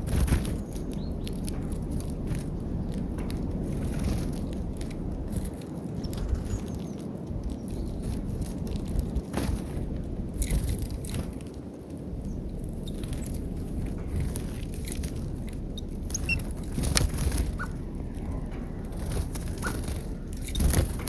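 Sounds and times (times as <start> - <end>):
birds pecking at feeder: 0.0 - 21.0
low steady rumble: 0.0 - 21.0.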